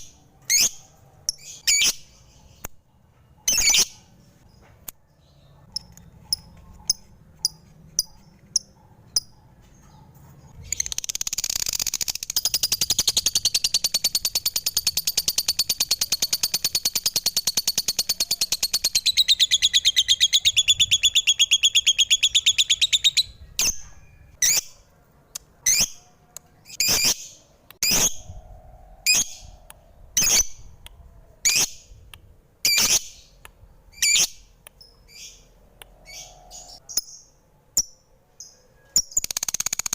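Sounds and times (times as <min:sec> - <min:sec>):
lovebird chirping and trilling: 0:00.0 - 0:02.7, 0:03.4 - 0:04.6, 0:10.5 - 0:24.8, 0:25.6 - 0:39.9.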